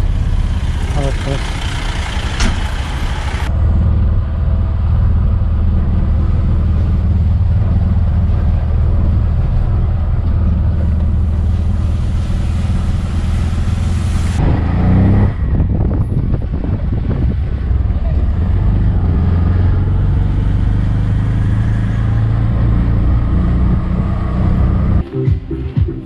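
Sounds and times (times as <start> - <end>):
auto rickshaw engine running: 0.0 - 25.0
road noise: 0.0 - 26.0
wind noise: 3.5 - 25.0.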